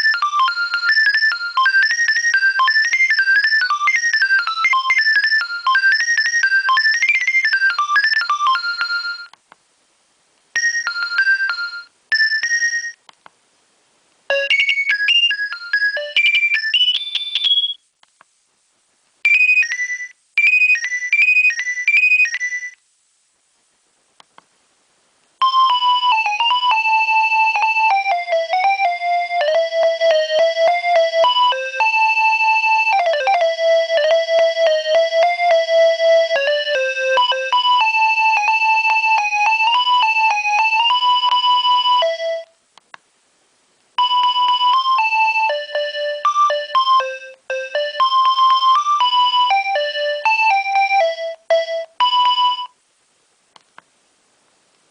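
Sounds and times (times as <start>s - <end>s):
mobile phone ringtone melody: 0.0s - 9.3s, 10.6s - 13.0s, 14.3s - 17.8s, 19.2s - 22.8s, 25.4s - 42.5s, 44.0s - 52.8s.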